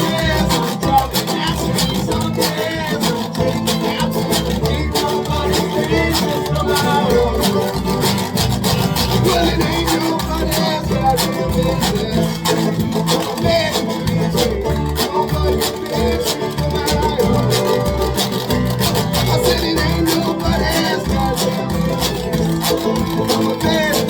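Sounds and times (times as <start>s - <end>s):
folk band playing: 0.0s - 24.0s.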